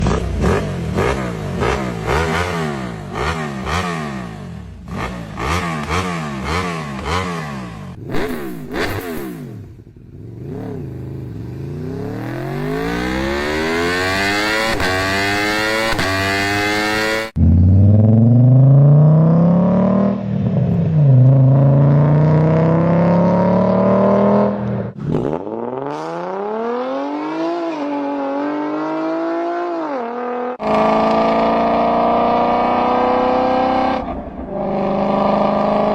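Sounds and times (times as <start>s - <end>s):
car engines revving and accelerating: 0.0s - 35.9s.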